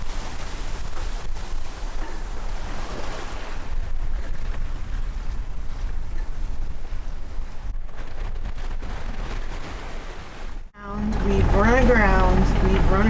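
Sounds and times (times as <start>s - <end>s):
water splashing along hull: 0.0s - 13.0s
wind buffeting microphone: 0.0s - 13.0s.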